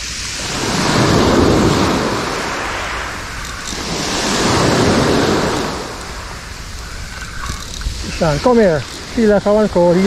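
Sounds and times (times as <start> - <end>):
sea waves breaking on beach: 0.0 - 10.0.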